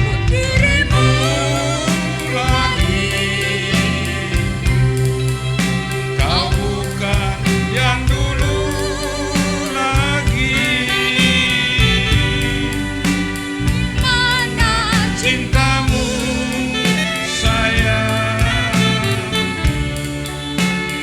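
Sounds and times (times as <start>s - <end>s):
drum strokes: 0.0s - 21.0s
person singing with vibrato: 0.0s - 21.0s.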